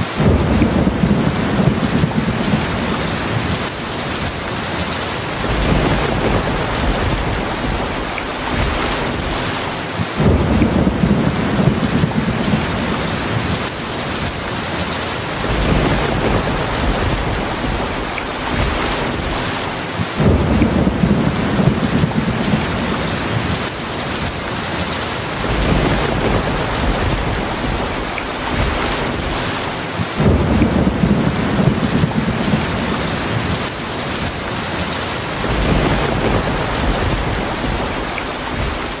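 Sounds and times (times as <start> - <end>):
heavy rain: 0.0 - 39.0
rolling thunder: 0.2 - 14.5, 15.2 - 39.0.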